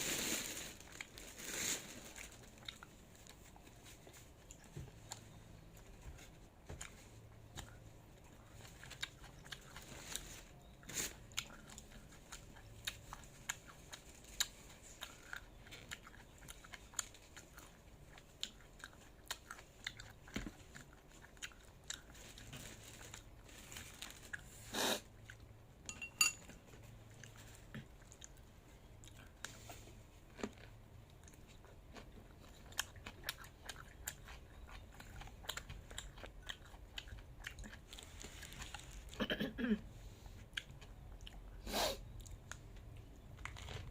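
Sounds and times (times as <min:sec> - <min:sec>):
person chewing crunchy food: 0:00.2 - 0:25.5, 0:26.4 - 0:39.2, 0:40.2 - 0:43.9.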